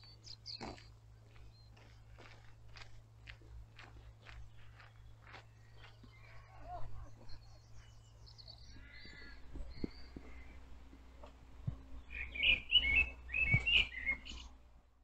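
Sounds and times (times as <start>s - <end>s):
steady low rumble: 0.0s - 13.4s
songbirds chirping and singing: 0.0s - 14.6s.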